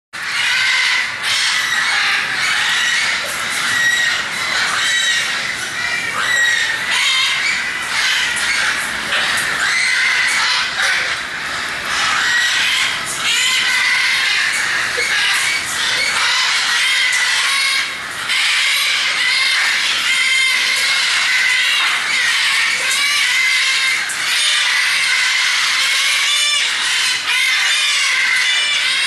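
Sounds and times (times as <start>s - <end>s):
macaws calling loudly: 0.2s - 29.0s.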